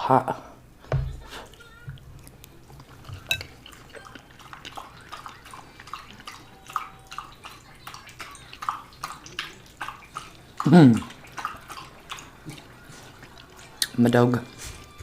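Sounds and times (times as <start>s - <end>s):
chewing with wet mouth clicks: 1.5s - 15.0s.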